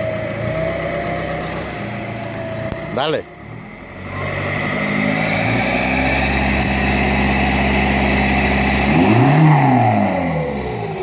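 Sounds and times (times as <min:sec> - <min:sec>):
car engine revving: 0:00.0 - 0:11.0
turbo falling whine: 0:01.4 - 0:10.6.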